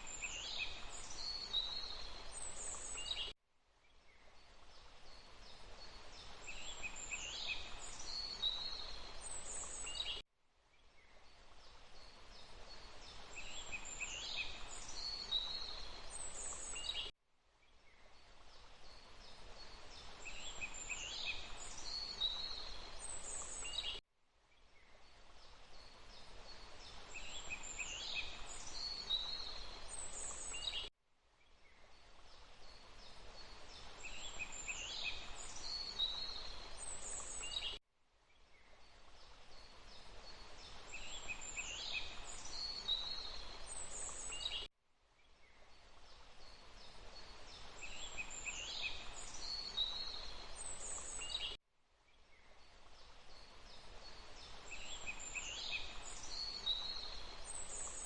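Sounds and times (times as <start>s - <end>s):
rushing water hiss: 0.0s - 3.3s, 4.5s - 10.2s, 11.3s - 17.1s, 18.2s - 24.0s, 25.0s - 30.8s, 32.0s - 37.8s, 38.9s - 44.7s, 45.7s - 51.5s, 52.6s - 58.0s
songbirds chirping: 0.0s - 58.0s.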